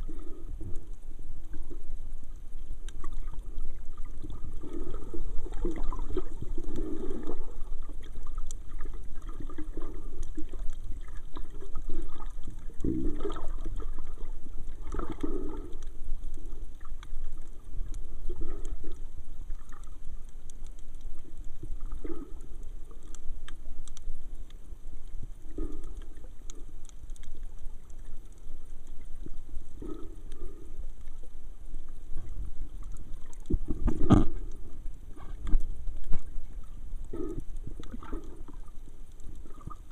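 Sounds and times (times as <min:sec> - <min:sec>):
underwater gurgling: 0:00.0 - 0:39.9
underwater rumble: 0:00.0 - 0:39.9.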